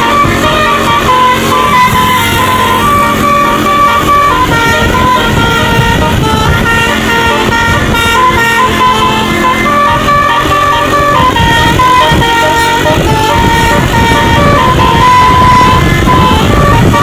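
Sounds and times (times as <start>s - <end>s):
bus horn playing a tune: 0.0s - 17.0s.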